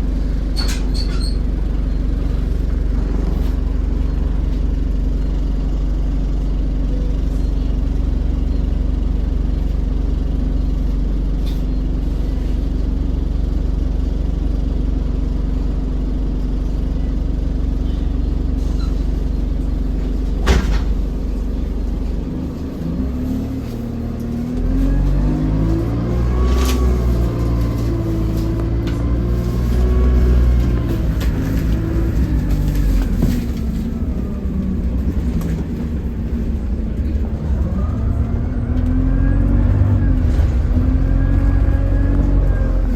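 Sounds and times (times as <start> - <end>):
bus diesel engine: 0.0 - 42.9.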